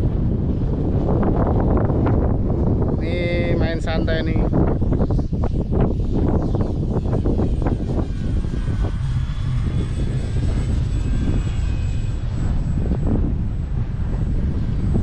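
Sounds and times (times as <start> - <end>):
electric motor and propeller whine: 0.0 - 15.0
wind rumble on microphone: 0.0 - 15.0.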